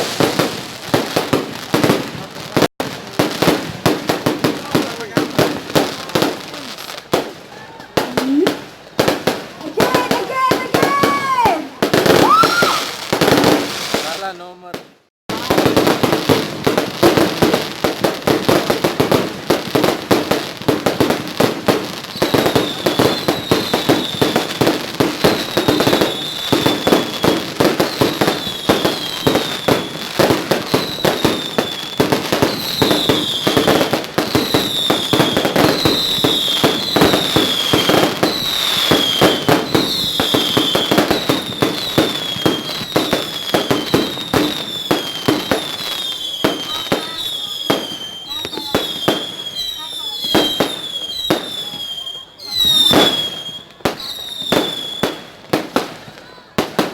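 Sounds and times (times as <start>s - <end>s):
fireworks falling whistles: 0.0s - 14.4s, 15.3s - 56.9s
fireworks popping and crackling: 0.0s - 56.9s.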